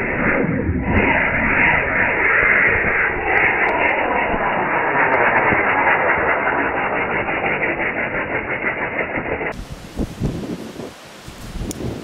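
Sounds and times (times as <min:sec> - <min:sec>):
firecracker hissing: 0:00.9 - 0:12.0.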